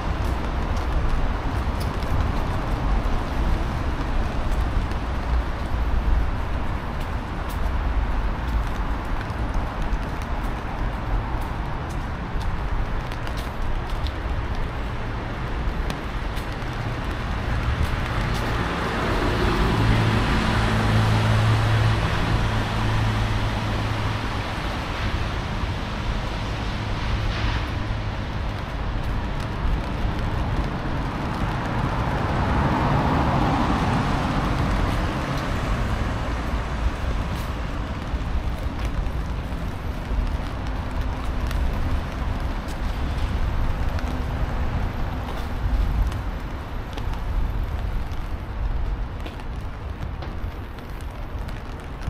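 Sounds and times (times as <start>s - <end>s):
road noise: 0.0s - 52.0s
vehicles passing by: 0.0s - 52.0s.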